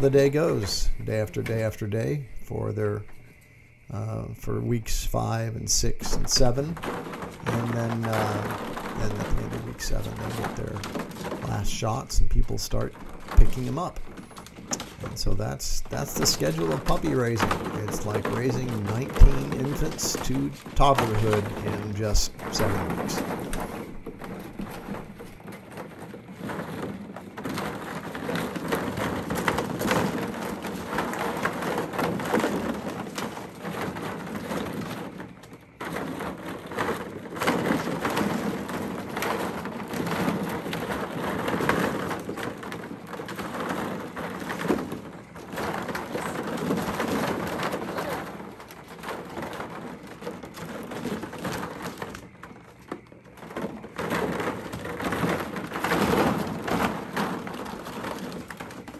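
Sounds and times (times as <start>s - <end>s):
plastic balls clattering: 0.0s - 58.9s.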